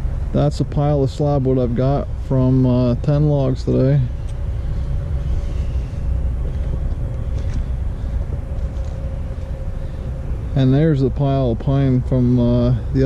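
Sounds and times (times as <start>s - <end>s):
engine rumbling: 0.0s - 13.0s
faint steady hum: 0.0s - 13.0s.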